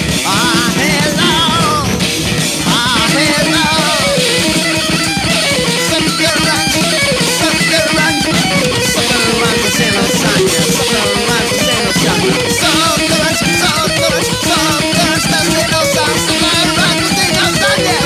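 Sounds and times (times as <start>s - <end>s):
high bending melody line: 0.0s - 18.0s
rock band playing: 0.0s - 18.0s.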